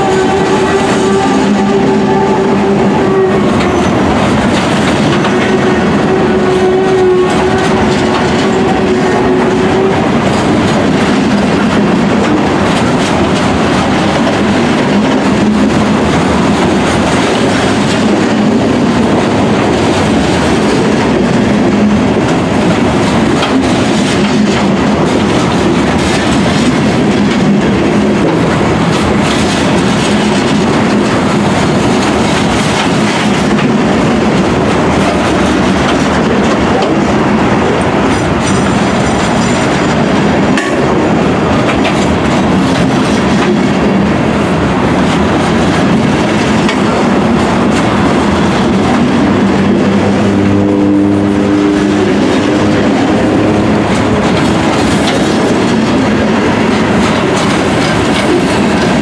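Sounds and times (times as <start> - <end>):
freight train rumbling past: 0.0 - 59.0
wheels clacking over rail joints: 0.0 - 59.0.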